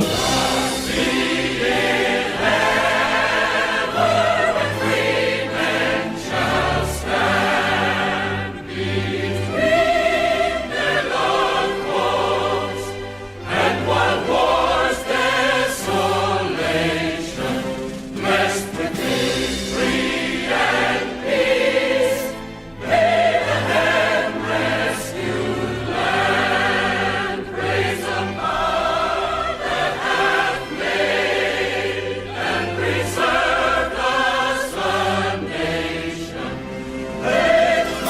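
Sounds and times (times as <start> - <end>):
choir singing sustained notes: 0.0 - 38.0.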